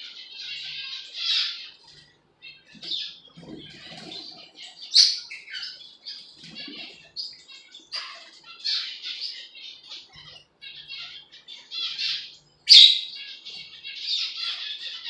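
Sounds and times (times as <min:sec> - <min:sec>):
lovebirds chattering: 0:00.0 - 0:15.0.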